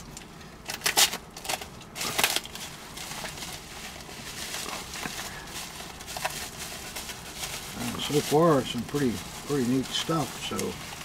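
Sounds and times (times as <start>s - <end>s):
bubble wrap crinkling: 0.1s - 11.0s.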